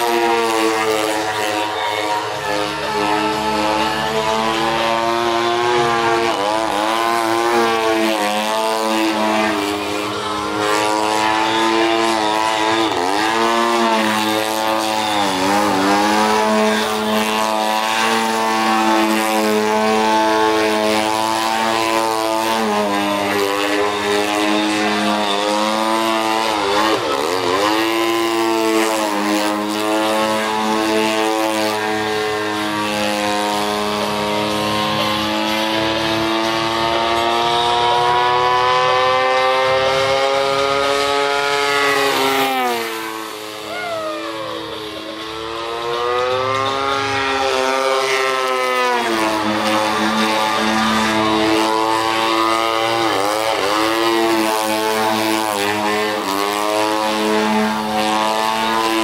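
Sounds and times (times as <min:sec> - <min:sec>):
model airplane engine and propeller: 0:00.0 - 0:59.0.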